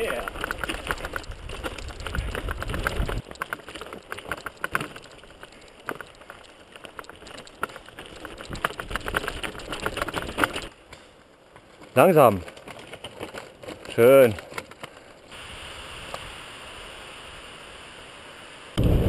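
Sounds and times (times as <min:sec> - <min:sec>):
mountain bike rattling on rocks: 0:00.0 - 0:15.4.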